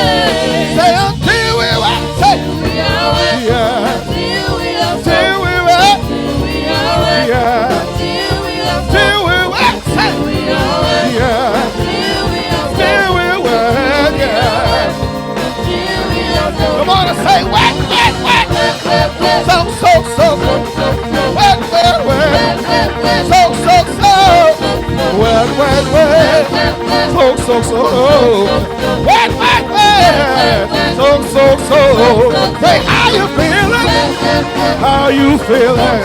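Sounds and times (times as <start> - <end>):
group singing gospel: 0.0 - 36.0
instrumental backing: 0.0 - 36.0.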